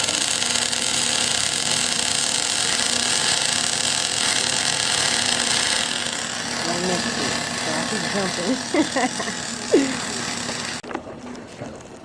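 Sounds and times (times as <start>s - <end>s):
electric blower running: 0.0s - 10.8s.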